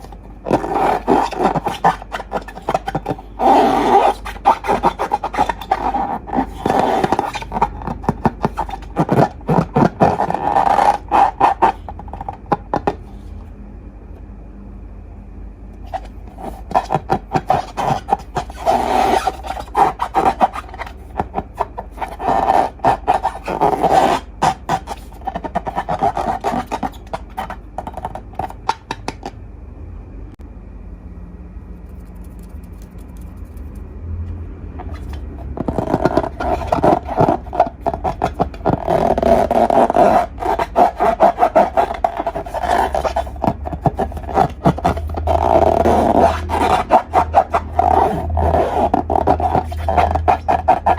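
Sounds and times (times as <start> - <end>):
slime crackling and scraping: 0.0 - 13.1, 15.9 - 29.3, 34.8 - 50.9.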